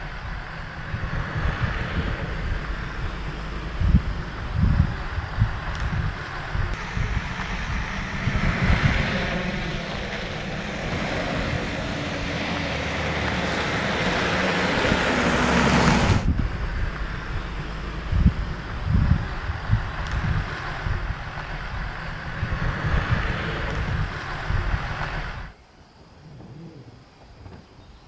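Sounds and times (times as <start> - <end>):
wind gusting on microphone: 0.0 - 25.6.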